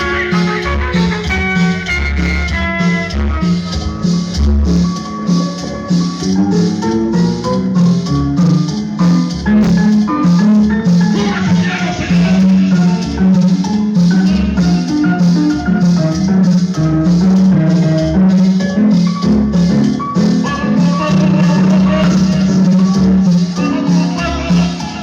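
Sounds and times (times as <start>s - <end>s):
latin dance music: 0.0s - 25.0s
strong bass line: 0.0s - 25.0s.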